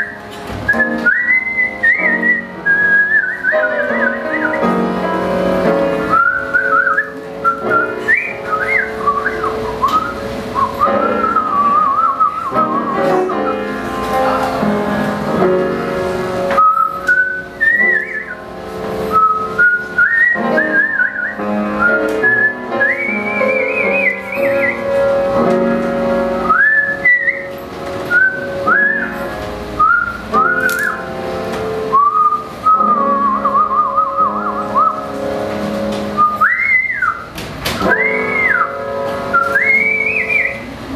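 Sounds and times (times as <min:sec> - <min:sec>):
woman whistling a jazz melody: 0:00.0 - 0:04.8, 0:06.1 - 0:13.8, 0:16.5 - 0:18.5, 0:19.1 - 0:25.0, 0:26.4 - 0:31.1, 0:31.9 - 0:35.2, 0:36.1 - 0:40.7.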